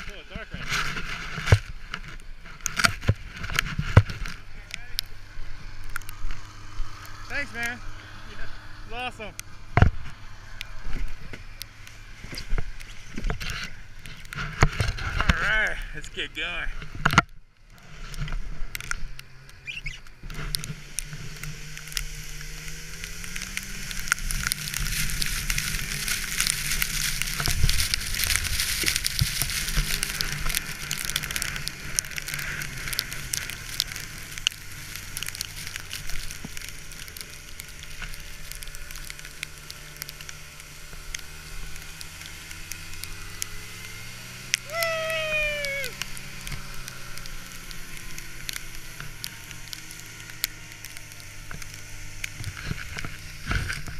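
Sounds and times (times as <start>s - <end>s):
sled scraping over snow: 0.0s - 17.2s, 17.8s - 53.9s
snowmobile engine: 0.0s - 53.9s.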